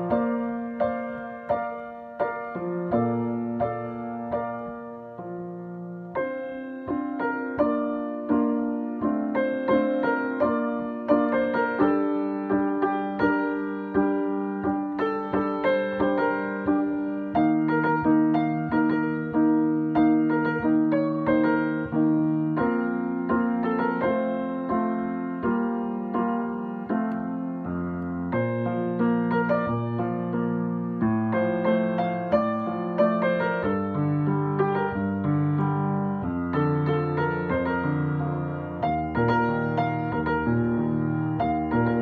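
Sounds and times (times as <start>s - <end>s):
grand piano playing: 0.0s - 42.0s.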